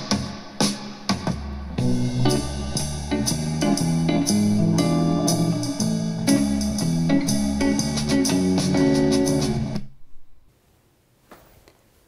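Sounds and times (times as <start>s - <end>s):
guitar and bass music on speakers: 0.0s - 10.0s.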